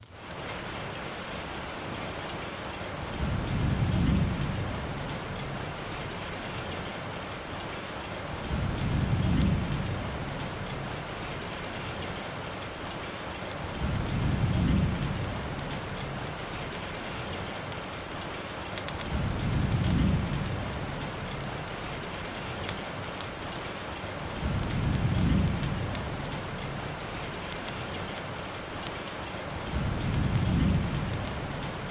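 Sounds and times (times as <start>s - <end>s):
steady rain: 0.0s - 31.9s.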